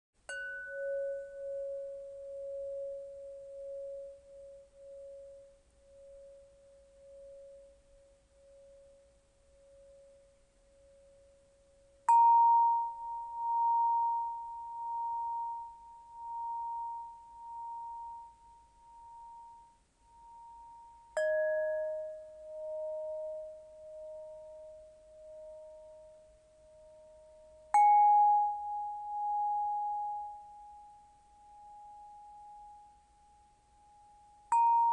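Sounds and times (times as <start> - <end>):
long ringing crystal notes: 0.3 - 34.9.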